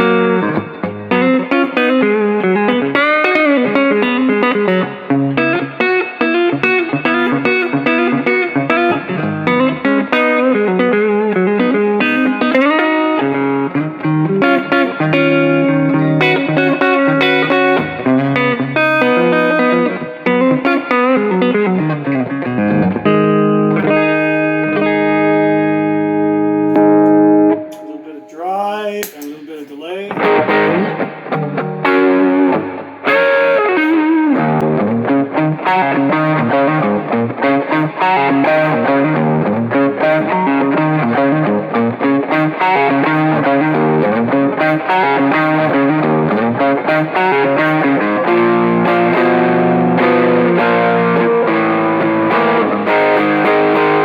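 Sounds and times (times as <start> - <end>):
electric guitar notes: 0.0 - 54.0.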